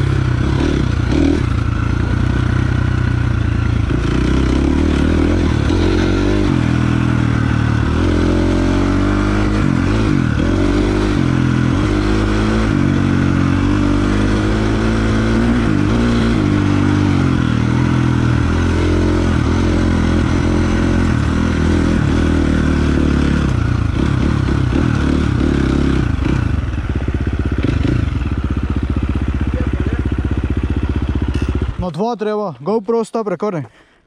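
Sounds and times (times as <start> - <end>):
dirt bike engine revving and idling: 0.0 - 33.8.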